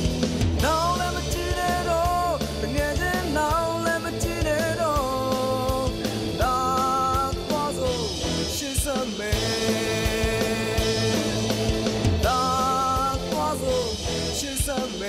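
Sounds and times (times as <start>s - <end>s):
drum kit: 0.0s - 15.0s
electric guitar: 0.0s - 15.0s
man singing: 0.6s - 15.0s.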